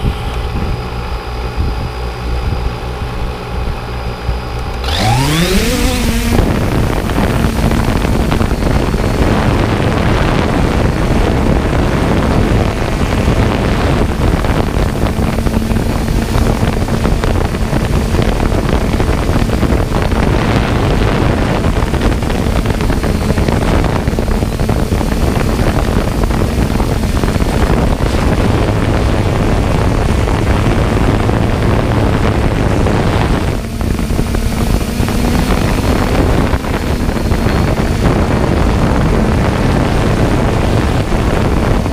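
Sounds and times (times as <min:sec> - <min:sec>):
motor humming: 0:00.0 - 0:41.9
wind on microphone: 0:00.0 - 0:41.9.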